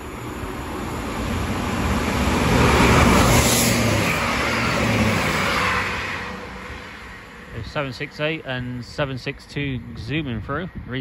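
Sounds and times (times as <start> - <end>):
diesel train passing at speed: 0.0 - 11.0.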